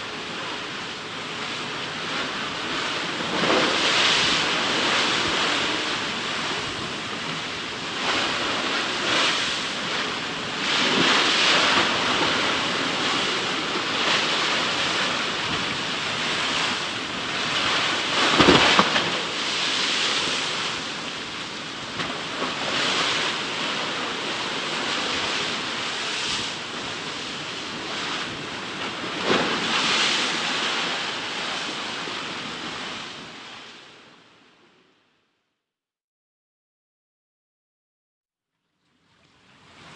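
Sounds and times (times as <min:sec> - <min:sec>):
sea waves breaking on shore: 0:00.0 - 0:34.8, 0:39.0 - 0:39.9.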